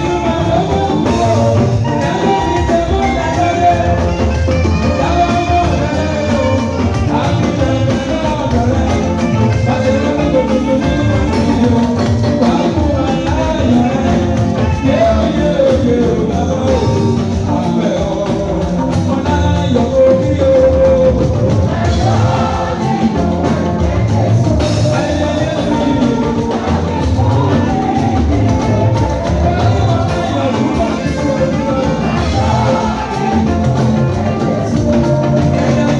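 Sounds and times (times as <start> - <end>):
band with steady drum beat: 0.0 - 35.9
choir singing: 0.0 - 35.9.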